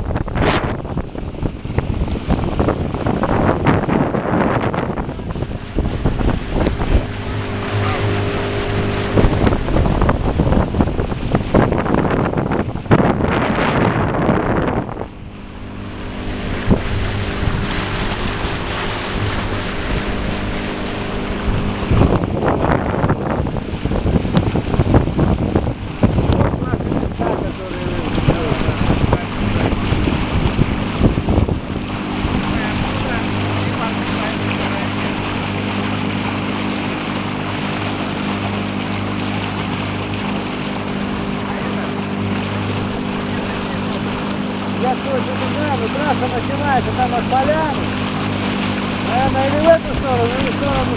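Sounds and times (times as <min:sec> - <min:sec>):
motorboat engine humming: 0:00.0 - 0:50.9
rushing wind and water: 0:00.0 - 0:50.9.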